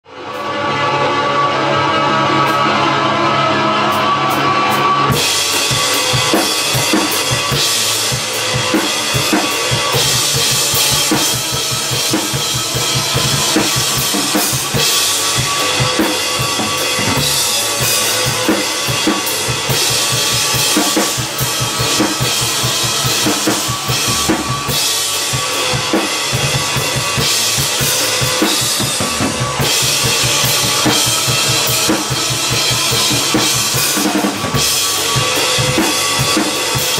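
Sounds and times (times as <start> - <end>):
electric guitar loop: 0.7 - 36.9
drum kit groove: 4.0 - 36.9.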